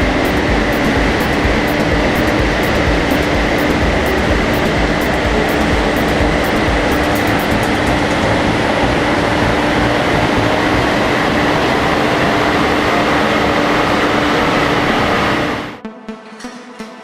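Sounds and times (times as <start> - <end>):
diesel engine on dynamometer: 0.0 - 15.8
constant whine: 0.0 - 16.5.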